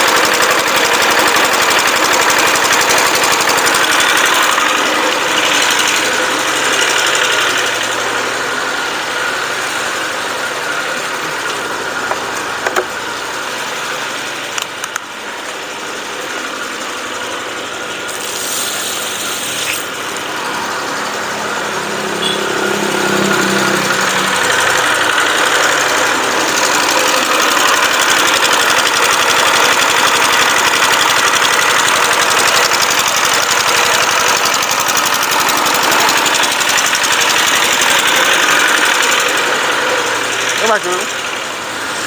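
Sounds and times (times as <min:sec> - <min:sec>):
small engine running: 0:00.0 - 0:42.0.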